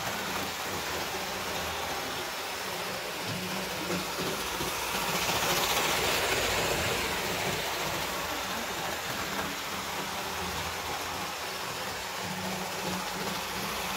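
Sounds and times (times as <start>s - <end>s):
model train motor whirring: 0.0s - 13.9s
wheels rolling over rails: 0.0s - 13.9s.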